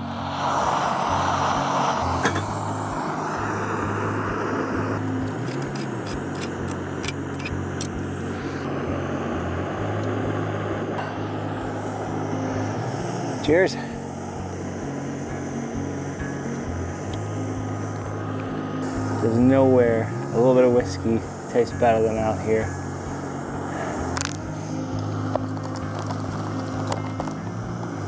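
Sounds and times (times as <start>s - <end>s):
gas stove hissing: 0.0s - 28.0s.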